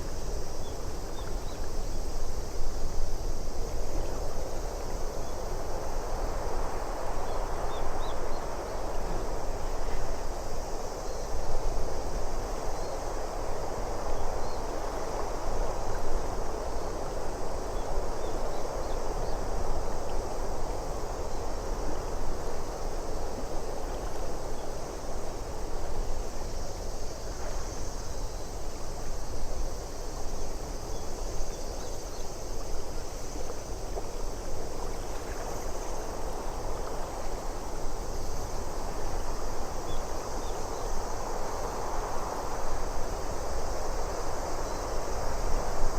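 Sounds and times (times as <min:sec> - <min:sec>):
wind: 0:00.0 - 0:45.9.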